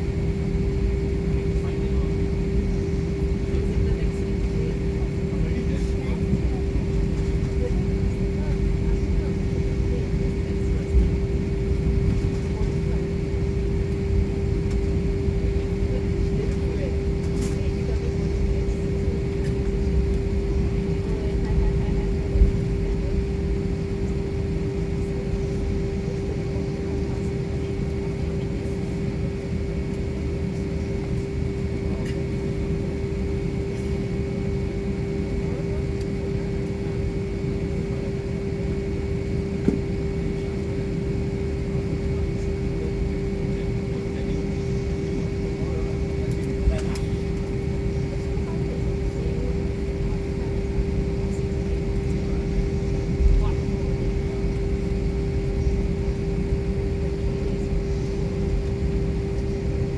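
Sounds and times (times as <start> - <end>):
airliner cabin engine rumble: 0.0 - 59.9
constant hum: 0.0 - 59.9.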